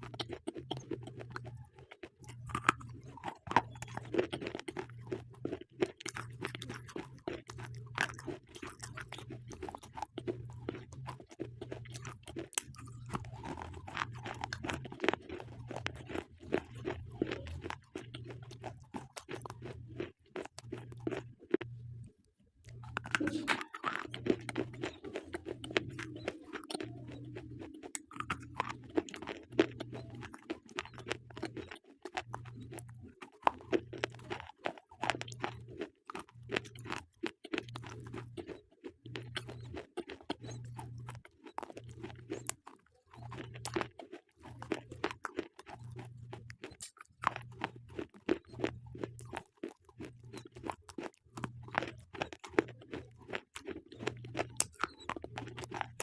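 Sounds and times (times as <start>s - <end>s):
slate pencils crunched by chewing: 0.0s - 21.7s, 22.6s - 56.0s.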